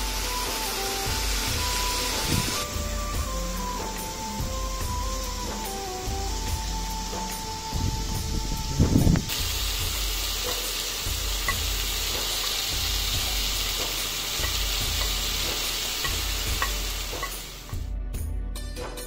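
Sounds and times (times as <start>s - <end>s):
food sizzling in frying pan: 0.0s - 17.9s.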